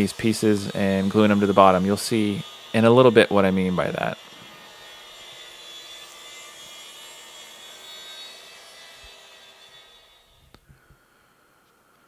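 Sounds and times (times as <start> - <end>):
track saw cutting wood: 0.0 - 10.6.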